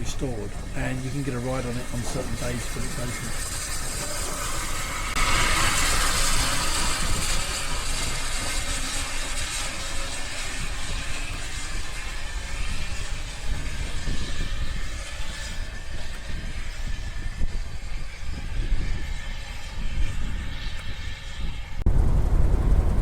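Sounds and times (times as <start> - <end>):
steam locomotive hiss: 0.0 - 21.8
locomotive low rumble: 0.0 - 23.0.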